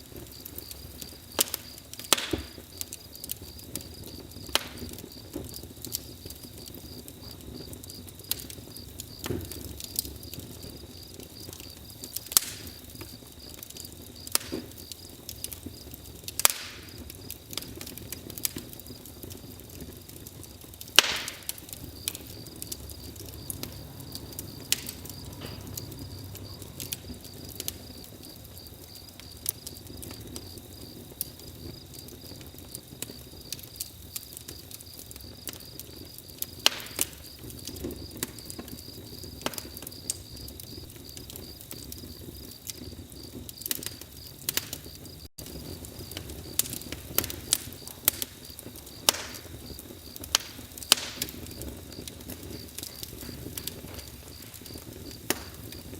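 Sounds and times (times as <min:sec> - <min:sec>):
burning wood popping: 0:00.0 - 0:55.9
campfire crackling: 0:00.0 - 0:55.9
crickets chirping: 0:00.0 - 0:55.9.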